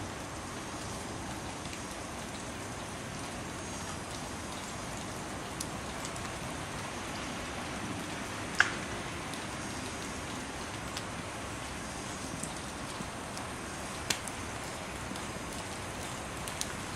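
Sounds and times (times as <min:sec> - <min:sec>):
wet snow falling: 0:00.2 - 0:16.9.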